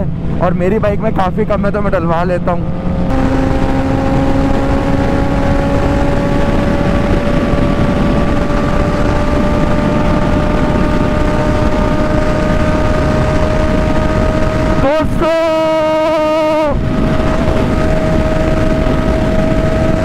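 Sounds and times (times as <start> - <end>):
motorcycle engine accelerating: 0.0 - 20.0
wind rush: 0.0 - 20.0.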